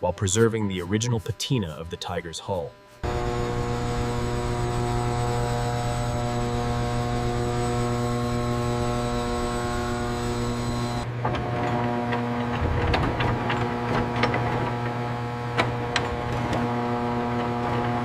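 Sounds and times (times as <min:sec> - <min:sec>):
electrical machine hum: 0:00.0 - 0:18.0.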